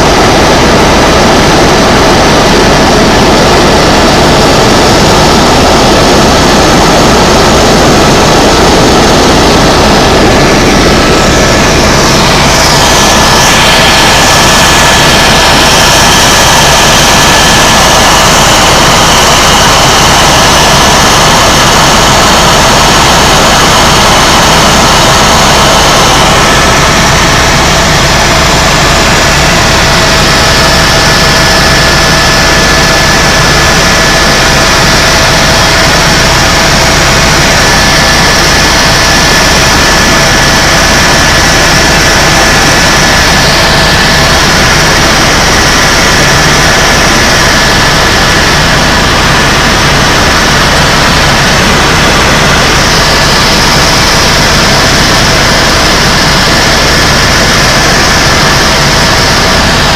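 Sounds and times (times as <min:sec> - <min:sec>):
helicopter rotor and turbine noise: 0:00.0 - 0:59.9
thin steady whine: 0:00.0 - 0:59.9.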